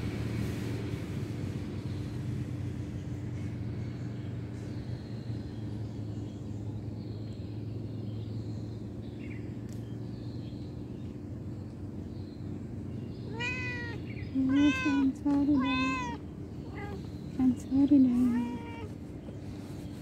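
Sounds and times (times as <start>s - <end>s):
low mechanical motor hum: 0.0s - 20.0s.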